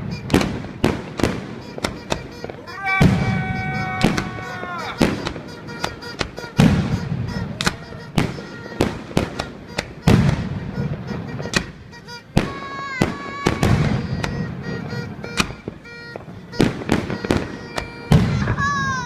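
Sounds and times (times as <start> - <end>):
deep firework booms: 0.0 - 11.8, 12.4 - 19.0
fireworks bangs and crackles: 0.0 - 19.0.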